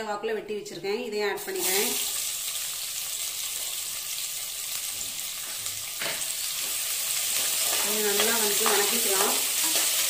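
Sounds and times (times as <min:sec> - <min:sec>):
onions sizzling in oil: 0:01.4 - 0:10.0.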